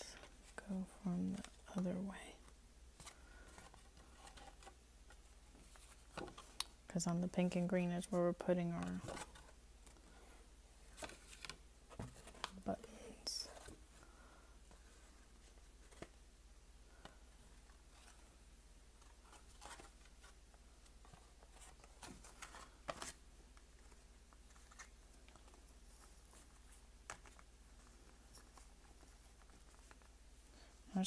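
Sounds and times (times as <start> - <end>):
cardstock and twine rustling: 0.1 - 16.2, 16.9 - 30.7.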